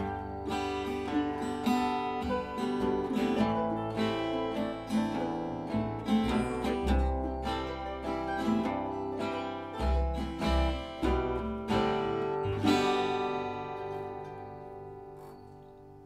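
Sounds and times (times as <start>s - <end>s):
acoustic string band playing: 0.0s - 15.4s.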